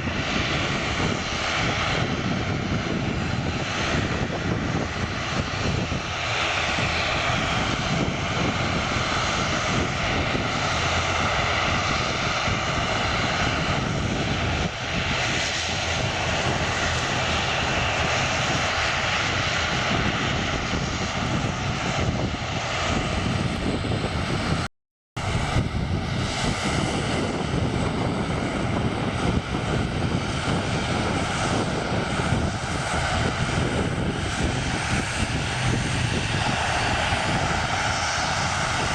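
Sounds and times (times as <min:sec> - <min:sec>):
propeller aircraft engines droning: 0:00.0 - 0:38.9.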